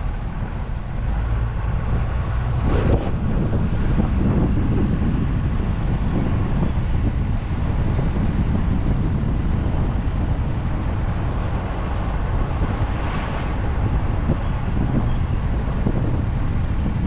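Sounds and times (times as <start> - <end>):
vehicle road rumble: 0.0 - 17.0
wind buffeting microphone: 0.0 - 17.0.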